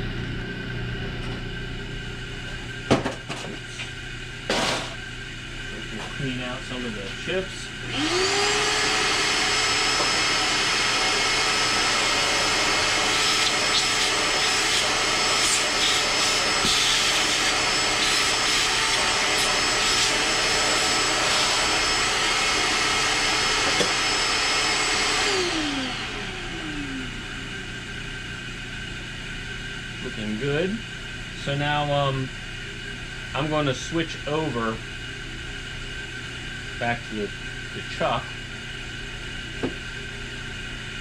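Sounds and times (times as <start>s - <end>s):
shop vacuum motor: 0.0s - 41.0s.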